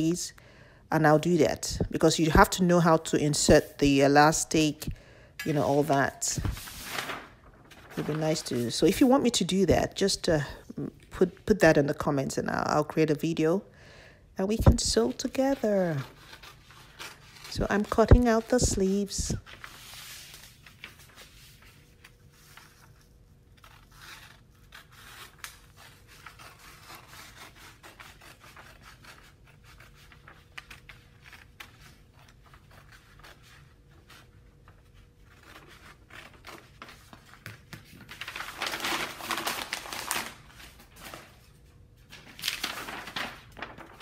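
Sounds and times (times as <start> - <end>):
paper rustling: 2.3 - 10.5, 14.6 - 44.0.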